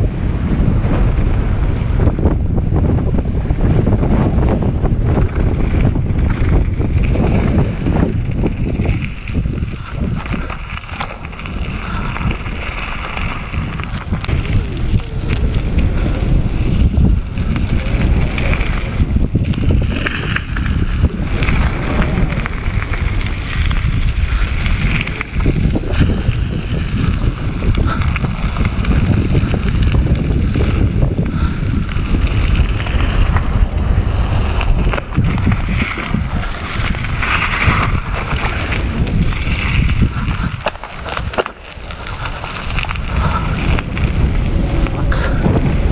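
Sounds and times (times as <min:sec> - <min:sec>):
wind buffeting microphone: 0:00.0 - 0:45.9
bike knocks and rattles: 0:02.0 - 0:45.9
tyres crunching on gravel: 0:05.0 - 0:45.9.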